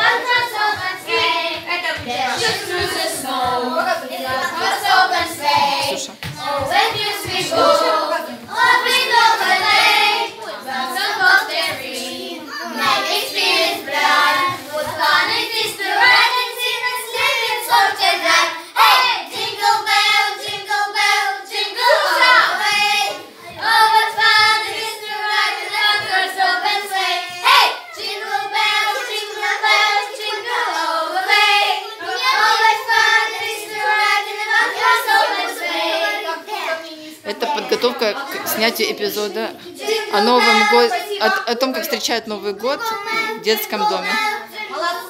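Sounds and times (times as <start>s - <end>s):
girls singing together: 0.0s - 42.0s, 42.6s - 45.0s.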